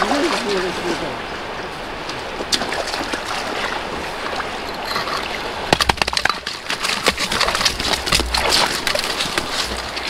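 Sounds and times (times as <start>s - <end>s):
sharp knocks and splashes: 0.0s - 1.1s, 2.0s - 10.0s
river water running: 0.0s - 10.0s.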